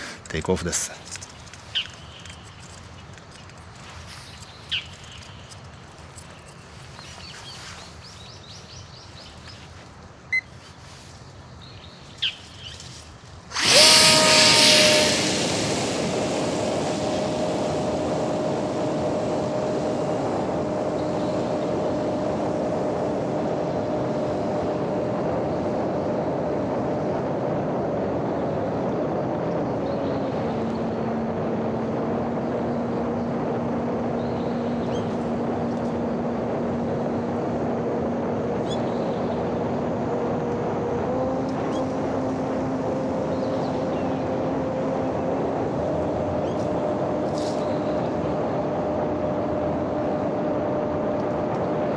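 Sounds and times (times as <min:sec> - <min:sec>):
electric motor and propeller whine: 0:00.0 - 0:51.9.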